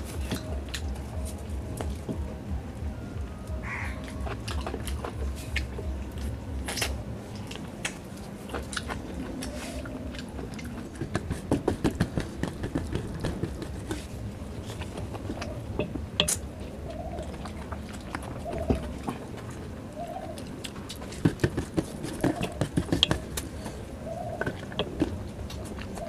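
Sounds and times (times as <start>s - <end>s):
chewing and mouth smacks: 0.0s - 2.2s, 3.5s - 23.8s.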